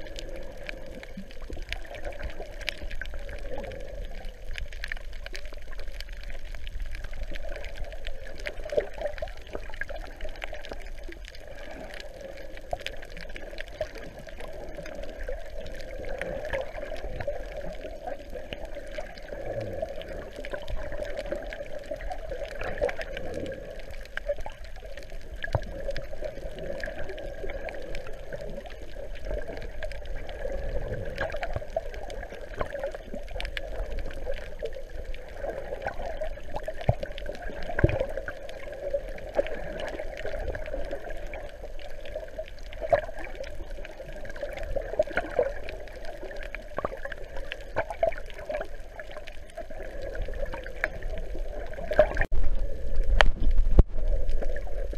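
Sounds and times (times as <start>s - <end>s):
underwater water swishing: 0.0s - 54.9s.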